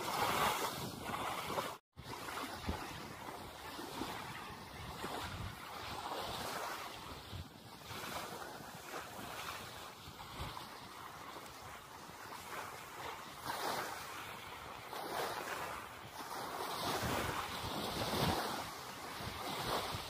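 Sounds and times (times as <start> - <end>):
small waves lapping on shore: 0.0 - 20.0
wind buffeting microphone: 0.0 - 20.0.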